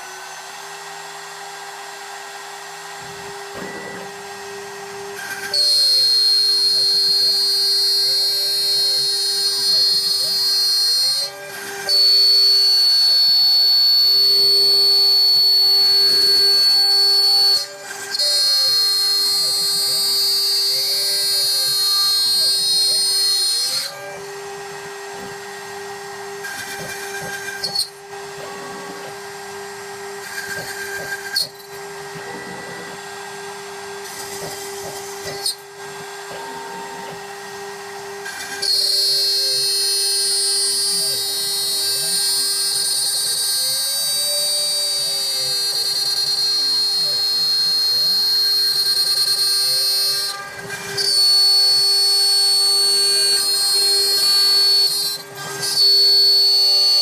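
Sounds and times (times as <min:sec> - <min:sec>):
milling machine motor whine: 0:00.0 - 0:57.0
stepper motors whirring: 0:00.0 - 0:57.0.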